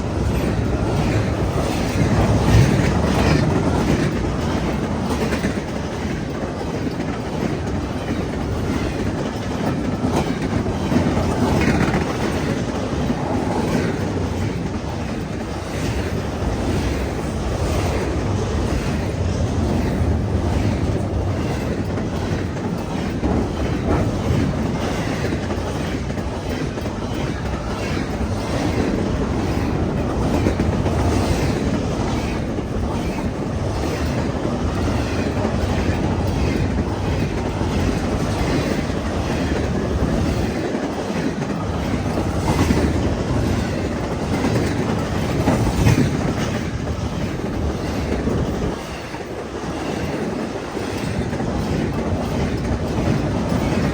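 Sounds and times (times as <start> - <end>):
freight train rumbling past: 0.0 - 53.9
train wheels clacking: 0.0 - 53.9.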